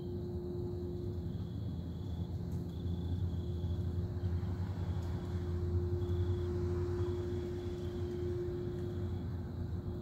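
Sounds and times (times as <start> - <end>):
constant higher tone: 0.0 - 10.0
faint high whine: 0.0 - 10.0
industrial machinery drone: 0.0 - 10.0.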